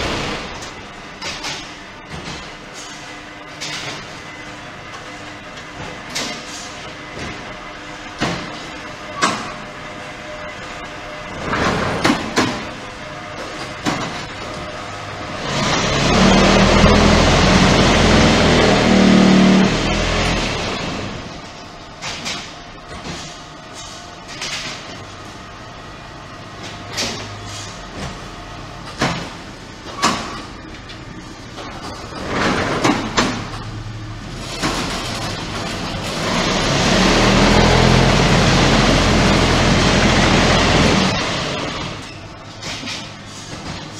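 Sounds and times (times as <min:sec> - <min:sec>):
brick-making machine din: 0:00.0 - 0:23.4, 0:31.5 - 0:43.9.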